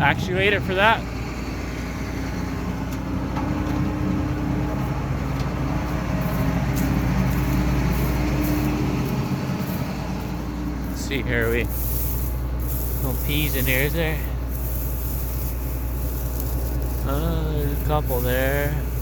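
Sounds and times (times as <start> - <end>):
combine harvester mechanical hum: 0.0 - 19.0.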